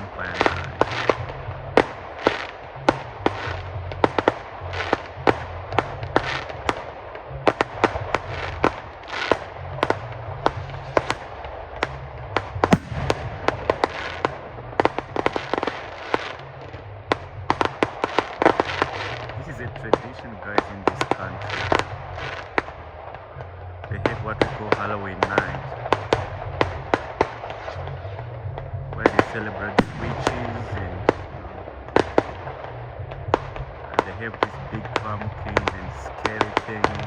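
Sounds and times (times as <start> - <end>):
firework bangs and crackles: 0.0 - 37.0.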